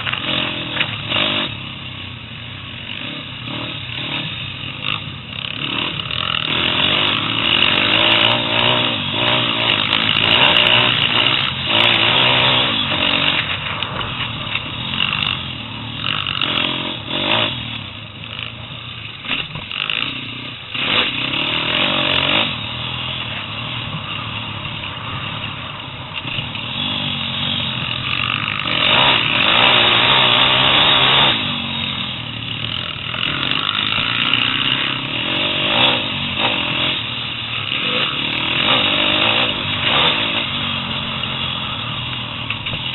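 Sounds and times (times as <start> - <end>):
motorbike engine revving: 0.0 - 42.9.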